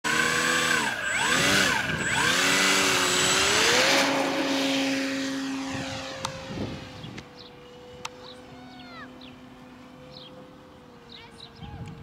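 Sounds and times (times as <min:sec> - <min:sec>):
model plane electric motor whining: 0:00.1 - 0:11.1.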